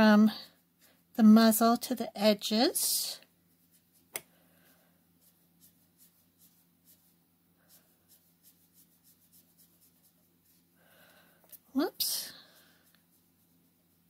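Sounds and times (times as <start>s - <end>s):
marker strokes on paper: 0.0s - 14.0s.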